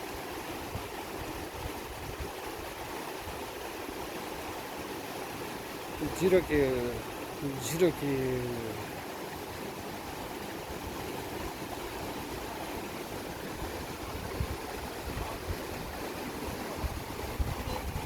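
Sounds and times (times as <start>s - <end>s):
river rushing: 0.1s - 18.0s.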